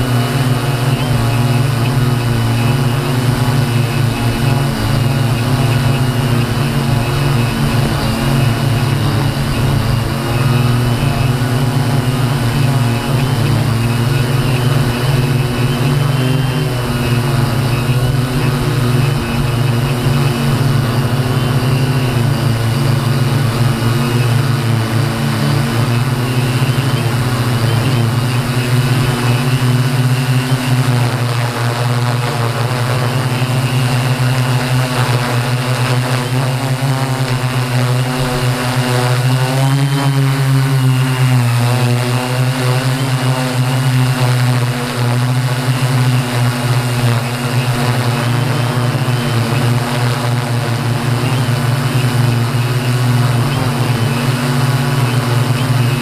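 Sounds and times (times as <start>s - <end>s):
drone motors and propellers whining: 0.0s - 56.0s.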